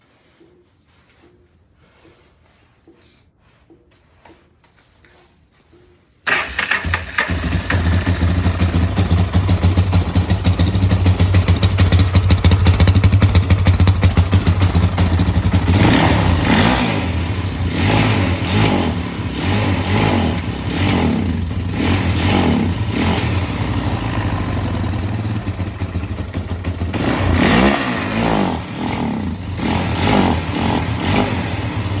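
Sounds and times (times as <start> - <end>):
atv engine revving: 6.3 - 32.0.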